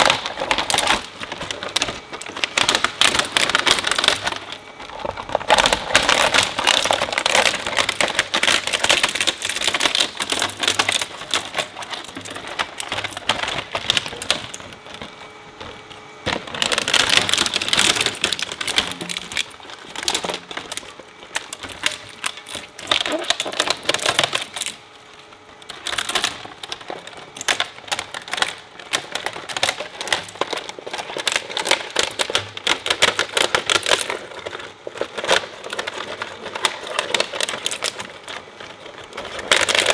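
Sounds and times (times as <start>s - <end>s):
shredder cracking plastic: 0.0s - 39.9s.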